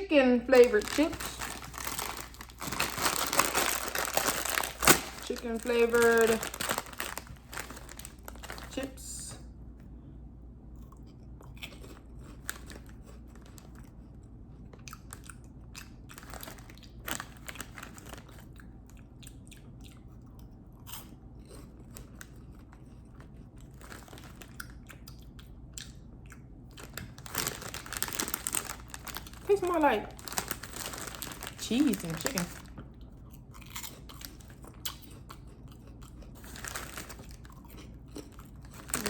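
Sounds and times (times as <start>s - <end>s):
person crunching potato crisps: 0.0s - 8.9s, 11.4s - 14.0s, 14.6s - 19.2s, 20.9s - 26.0s, 26.7s - 39.0s.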